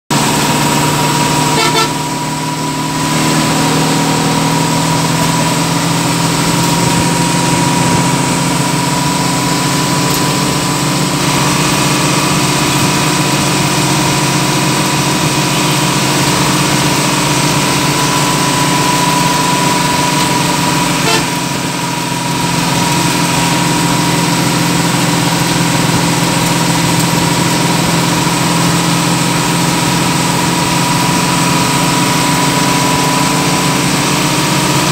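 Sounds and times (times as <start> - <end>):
bus engine drone: 0.1 - 34.9
road noise: 0.1 - 34.9.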